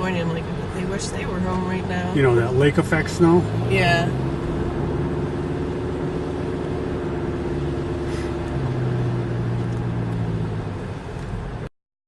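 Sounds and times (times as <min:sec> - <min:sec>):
car engine and road noise: 0:00.0 - 0:11.7.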